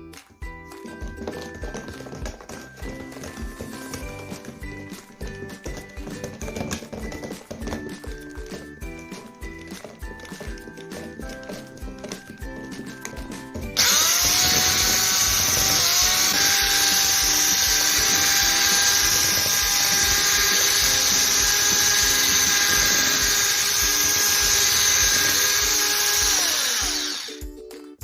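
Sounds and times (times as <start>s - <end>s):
background music: 0.0s - 28.0s
electric hand mixer whirring: 1.2s - 27.5s.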